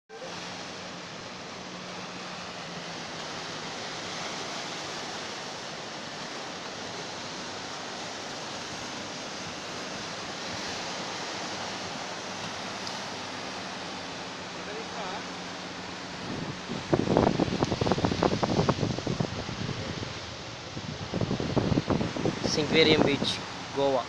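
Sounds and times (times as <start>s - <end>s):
waves breaking over rocks: 0.1s - 24.0s.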